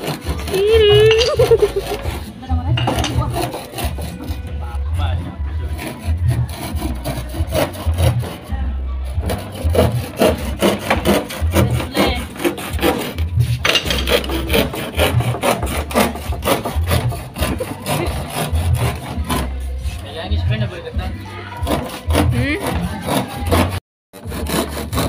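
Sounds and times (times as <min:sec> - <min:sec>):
hand saw cutting wood: 0:00.0 - 0:20.2, 0:21.5 - 0:25.0.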